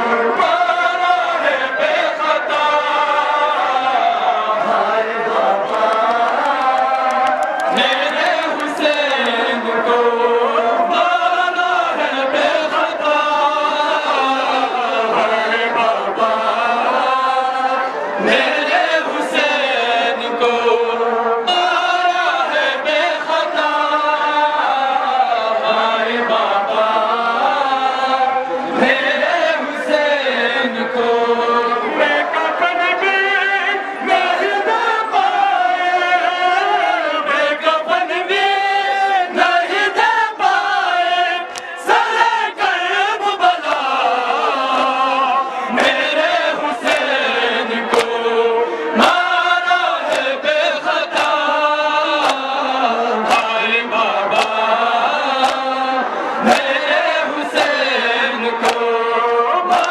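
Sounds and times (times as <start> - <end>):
crowd chanting in unison: 0.0 - 59.9
men chanting a lament: 0.0 - 59.9.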